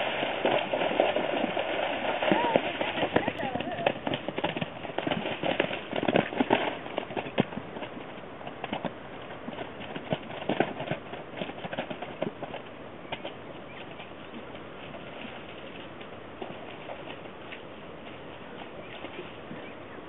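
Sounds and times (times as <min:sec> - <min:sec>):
hoofbeats on soft wet ground: 0:00.0 - 0:20.0.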